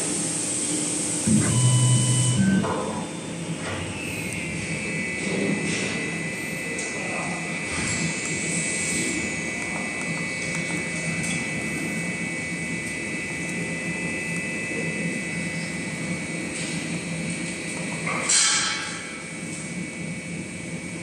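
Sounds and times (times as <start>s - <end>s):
constant high whine: 0.0s - 21.0s
steady machine drone: 0.0s - 21.0s.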